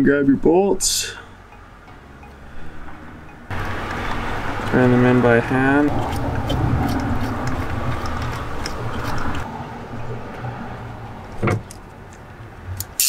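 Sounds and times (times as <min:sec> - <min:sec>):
steady low hum: 0:01.0 - 0:11.9.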